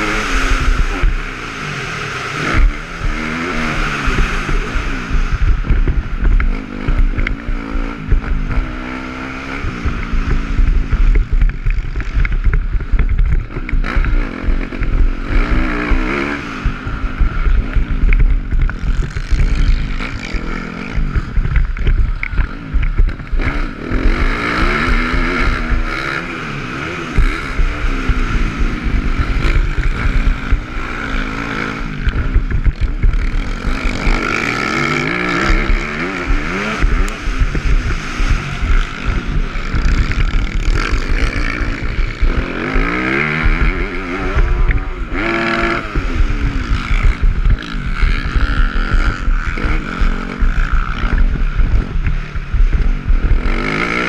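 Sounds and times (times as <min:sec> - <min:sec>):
dirt bike engine revving: 0:00.0 - 0:54.0
wind rumble on microphone: 0:00.0 - 0:54.0.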